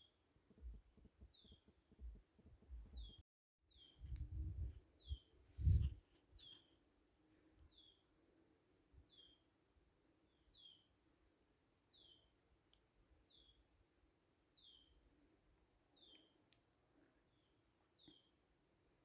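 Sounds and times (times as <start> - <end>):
small songbird chirping: 0.0 - 19.0.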